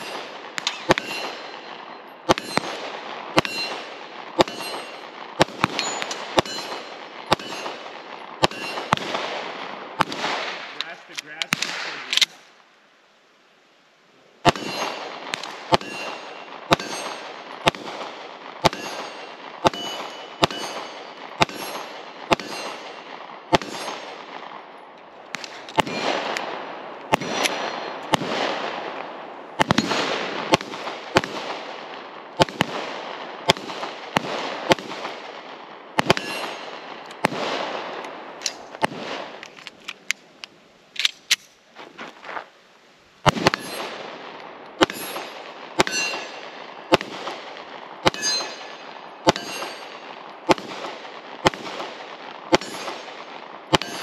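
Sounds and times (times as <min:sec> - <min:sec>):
pistol shots echoing: 0:00.0 - 0:12.3, 0:14.4 - 0:39.4, 0:43.2 - 0:54.0.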